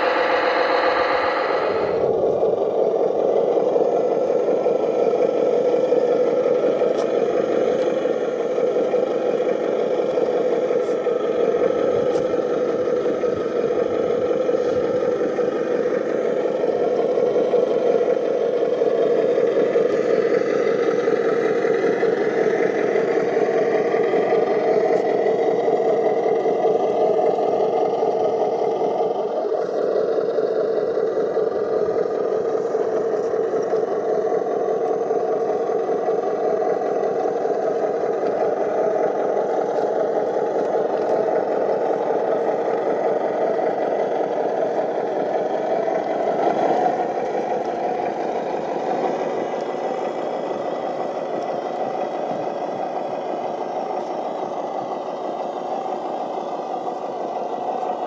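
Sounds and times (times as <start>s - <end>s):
toy construction vehicle engine drone: 0.0s - 58.0s.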